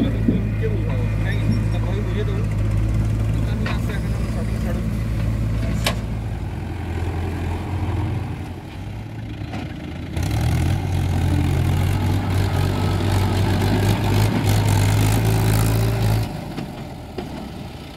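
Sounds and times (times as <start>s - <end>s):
diesel engines running: 0.0s - 17.9s
tractor diesel hauling: 0.0s - 17.9s.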